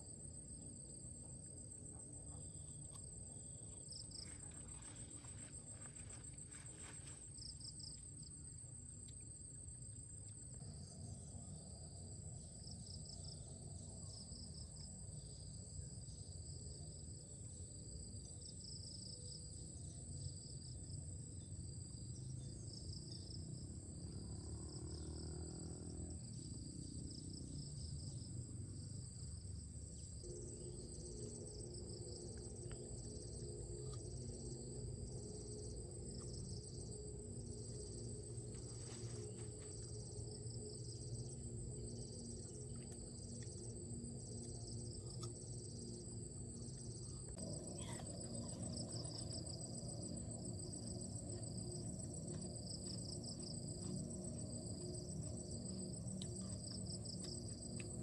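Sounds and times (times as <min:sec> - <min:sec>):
crickets trilling: 0:00.0 - 0:58.0
pulsing insect chirp: 0:00.0 - 0:58.0.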